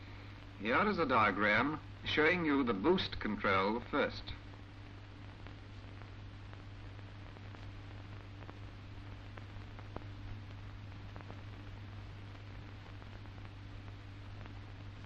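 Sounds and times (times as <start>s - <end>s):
faint crackles: 0.0s - 15.0s
film soundtrack hiss and hum: 0.0s - 15.0s.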